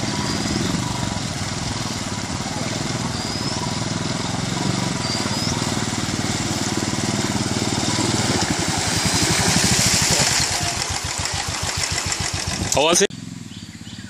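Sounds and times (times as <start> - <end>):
water splashing around wheels: 0.0 - 13.5
motorcycle engine at low revs: 0.0 - 14.0.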